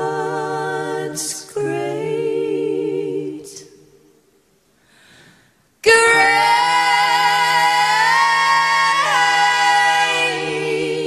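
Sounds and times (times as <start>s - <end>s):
women singing in harmony: 0.0s - 4.2s, 5.8s - 11.0s.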